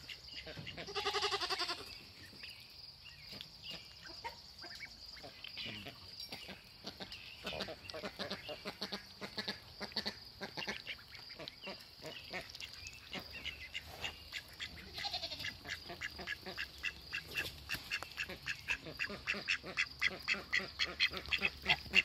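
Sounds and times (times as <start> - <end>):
ducklings quacking: 0.0 - 1.9, 3.2 - 22.0.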